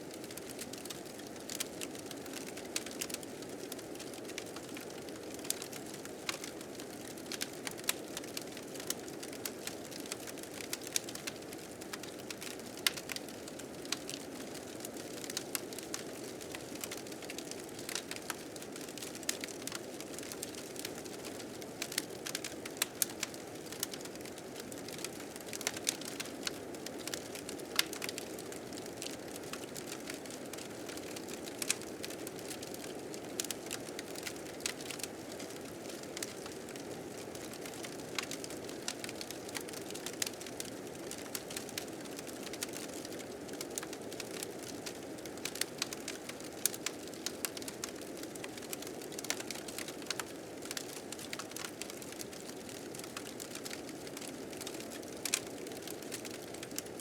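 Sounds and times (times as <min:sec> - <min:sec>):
wood fire crackling and popping: 0:00.2 - 0:57.0.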